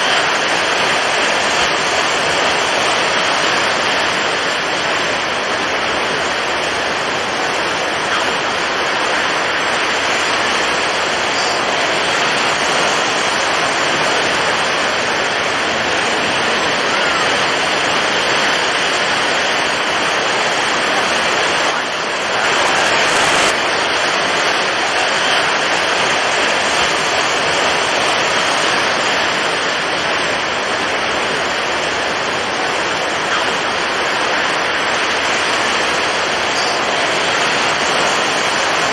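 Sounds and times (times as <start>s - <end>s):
strong wind: 0.0s - 38.9s
waves breaking: 0.0s - 38.9s.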